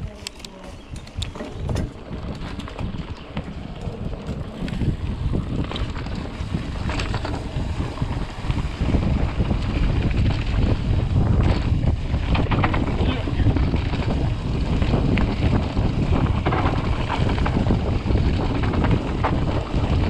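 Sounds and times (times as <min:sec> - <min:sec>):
bike rattling: 0:00.0 - 0:20.0
tyres rumbling on dirt: 0:00.0 - 0:20.0
wind buffeting microphone: 0:00.0 - 0:20.0.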